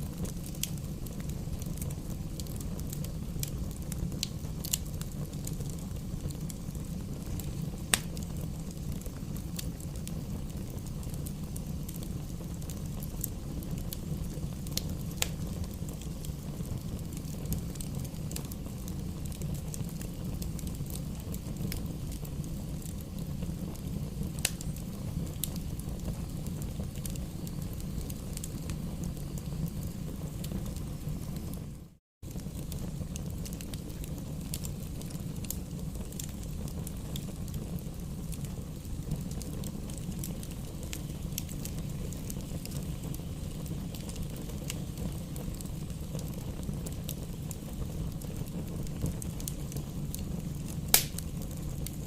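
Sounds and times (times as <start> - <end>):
fire crackling and popping: 0.0 - 52.0
rush of campfire flames: 0.0 - 52.0.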